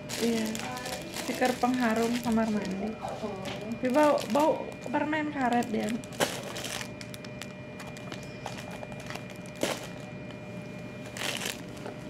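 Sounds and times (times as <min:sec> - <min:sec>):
plastic packaging rustle: 0:00.0 - 0:10.4, 0:11.0 - 0:12.0
faint steady whine: 0:00.0 - 0:12.0.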